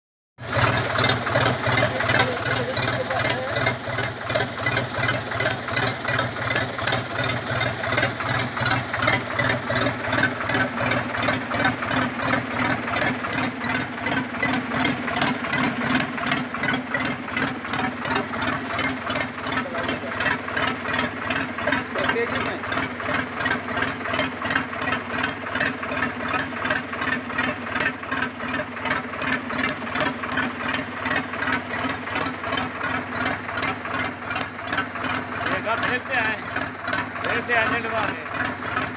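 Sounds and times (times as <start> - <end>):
tractor diesel engine idling: 0.4 - 38.9.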